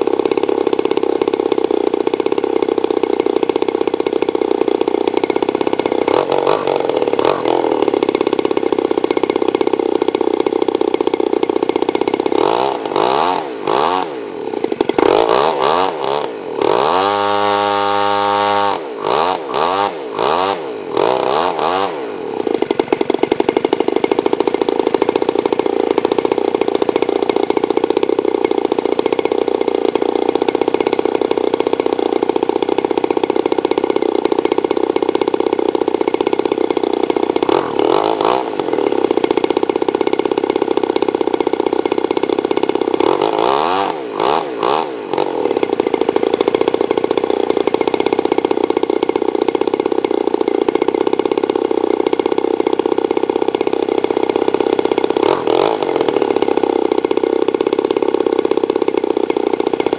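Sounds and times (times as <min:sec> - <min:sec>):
two-stroke engine running: 0:00.0 - 0:59.9.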